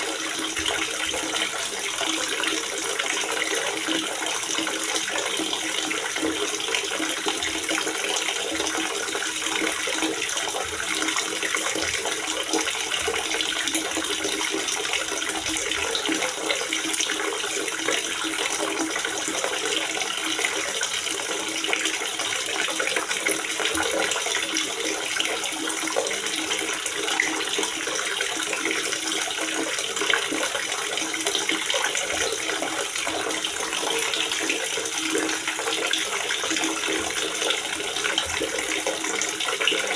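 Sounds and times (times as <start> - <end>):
water gurgling: 0.0 - 39.9.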